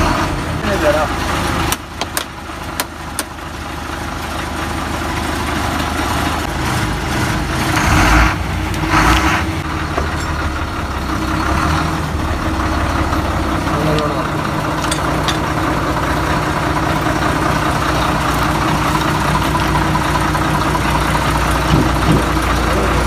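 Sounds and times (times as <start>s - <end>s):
diesel bus engine idling: 0.0s - 23.0s.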